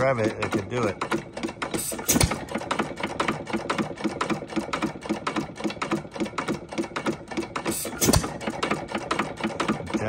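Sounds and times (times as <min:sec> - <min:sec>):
engine mechanism clicking: 0:00.0 - 0:10.0.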